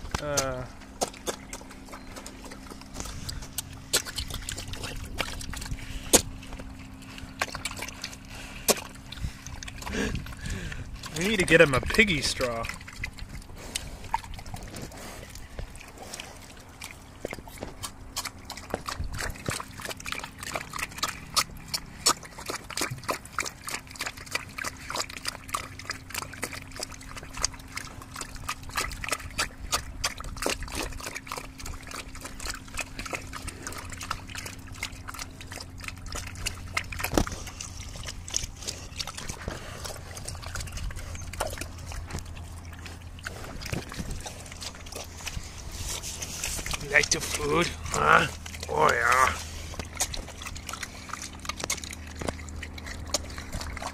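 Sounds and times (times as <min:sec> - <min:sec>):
pig slurping slop: 0:00.0 - 0:53.9.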